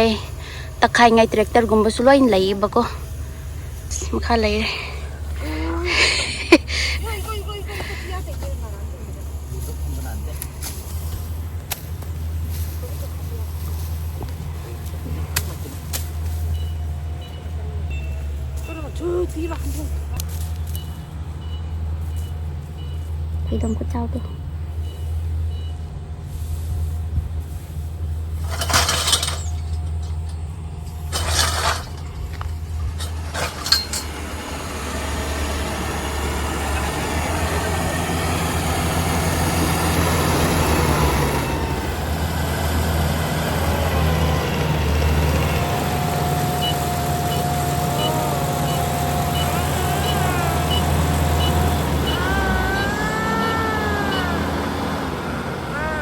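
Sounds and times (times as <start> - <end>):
harvester engine humming: 0.0 - 56.0.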